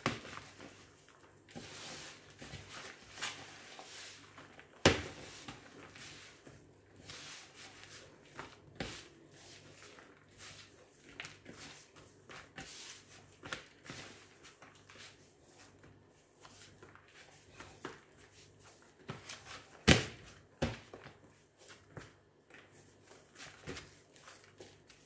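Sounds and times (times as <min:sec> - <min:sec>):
hands kneading bread dough: 0:00.0 - 0:25.0.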